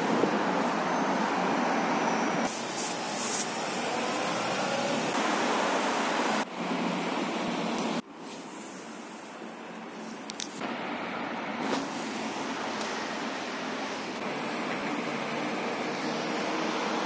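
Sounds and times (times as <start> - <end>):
road traffic rushing hiss: 0.0 - 17.0.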